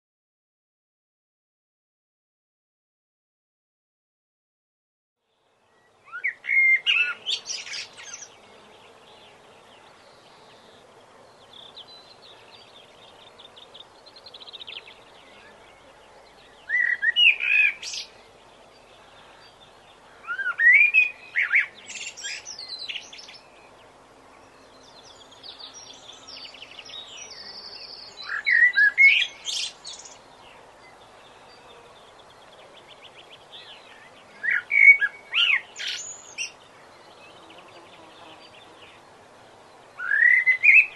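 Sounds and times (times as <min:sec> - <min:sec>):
low background hiss: 0:05.2 - 0:40.9
songbirds chirping: 0:05.2 - 0:40.9
faint rapid bird trills: 0:05.4 - 0:40.9.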